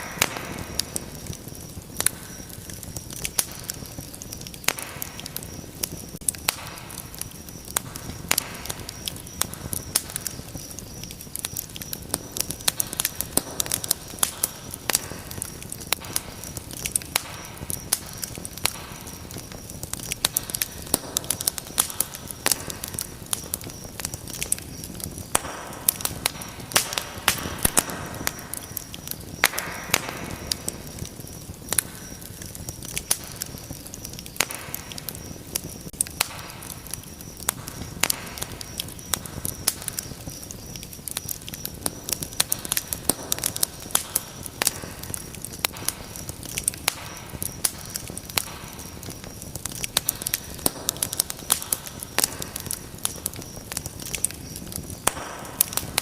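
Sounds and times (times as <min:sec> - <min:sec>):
soft hiss of flames: 0:00.0 - 0:56.0
wood fire crackling and popping: 0:00.0 - 0:56.0.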